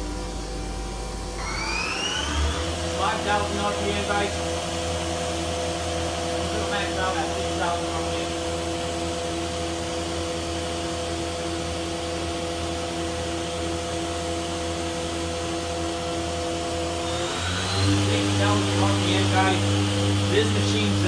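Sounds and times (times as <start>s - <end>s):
machine spindle whine and hum: 0.0s - 21.0s.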